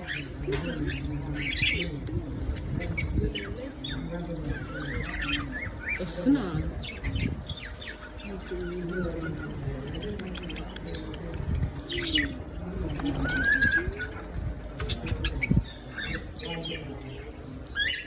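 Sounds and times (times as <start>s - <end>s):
lovebirds chirping: 0.0s - 18.0s.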